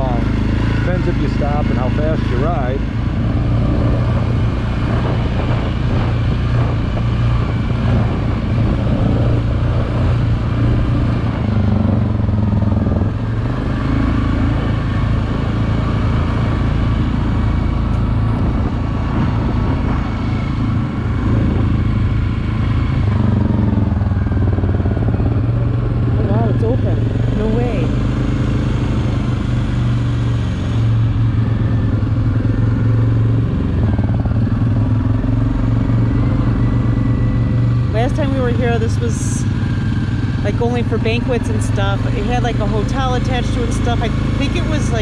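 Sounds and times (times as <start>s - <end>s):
quad bike engine running: 0.0s - 45.0s.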